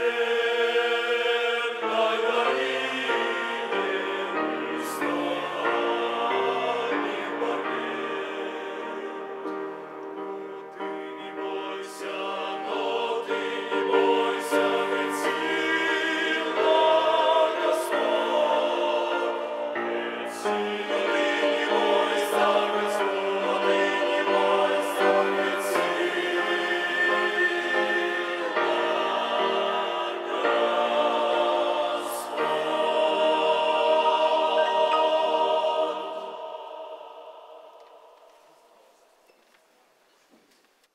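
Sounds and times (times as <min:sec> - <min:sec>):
church choir singing a hymn: 0:00.0 - 0:39.3.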